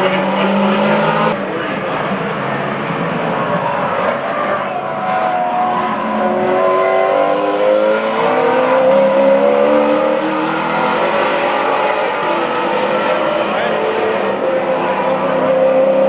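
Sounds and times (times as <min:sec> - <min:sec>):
race car engines at speed: 0:00.0 - 0:16.0.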